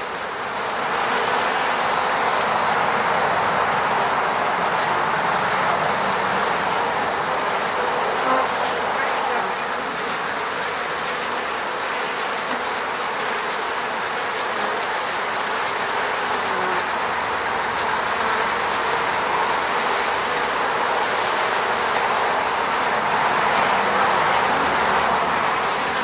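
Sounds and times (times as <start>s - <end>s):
bees humming around hive: 0.0s - 26.0s
single bee buzzing past: 0.9s - 3.0s, 6.0s - 26.0s.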